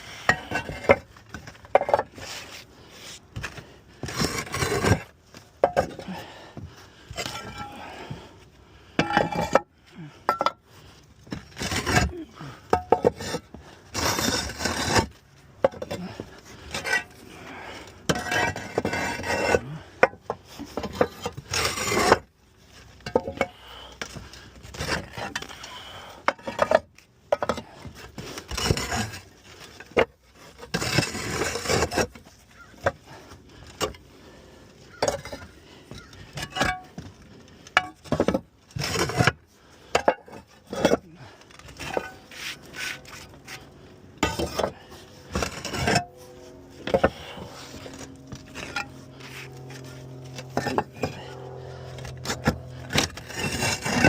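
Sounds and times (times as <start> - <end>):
roof tiles knocking and scraping: 0.2 - 8.3, 9.0 - 49.8, 50.4 - 51.3, 52.0 - 54.0.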